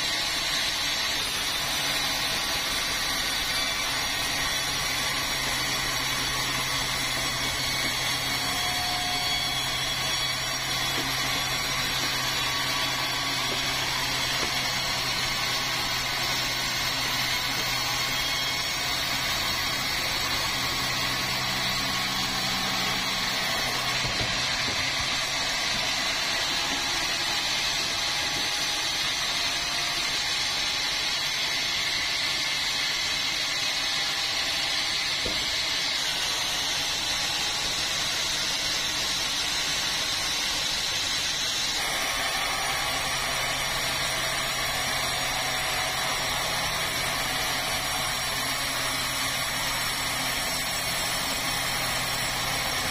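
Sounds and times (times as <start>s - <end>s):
power saw cutting log: 0.0s - 52.9s.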